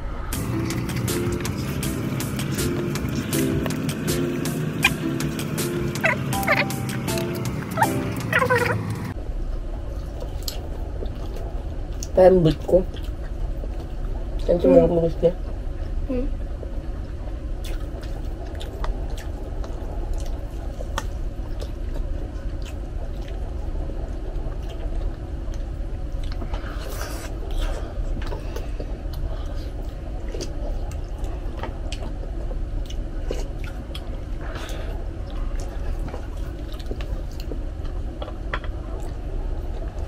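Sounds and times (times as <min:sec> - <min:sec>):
steady low hum: 0:00.0 - 0:40.0
people chewing: 0:00.3 - 0:09.2, 0:09.8 - 0:15.2, 0:17.1 - 0:40.0.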